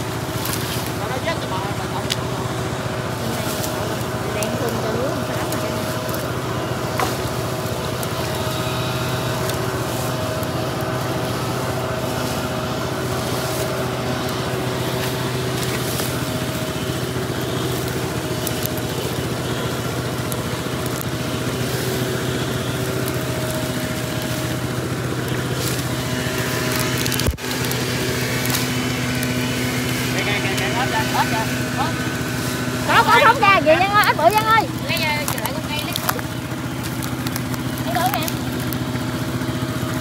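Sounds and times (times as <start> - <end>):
dry branches crackling: 0.0 - 40.0
small engine droning: 0.0 - 40.0.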